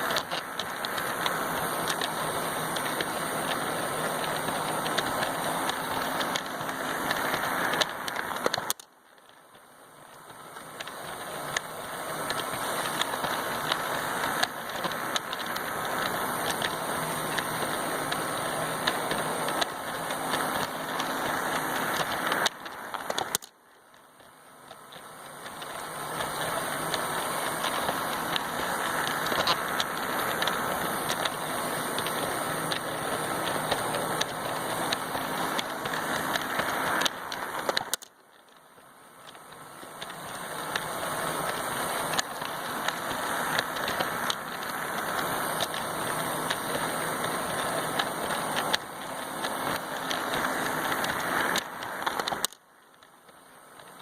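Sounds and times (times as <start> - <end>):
toy train motor whir: 0.0 - 8.8, 10.5 - 23.5, 24.7 - 38.6, 39.2 - 53.0
clicks over track joints: 0.0 - 54.0
wheel rumble: 0.0 - 54.0.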